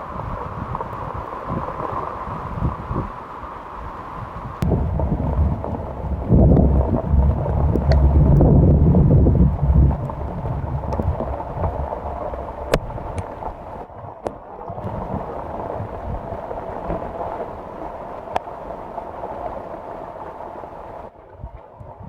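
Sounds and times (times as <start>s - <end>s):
heavy rain: 0.0s - 22.0s
rainwater running and gurgling: 0.0s - 22.0s
wind buffeting microphone: 0.0s - 22.0s.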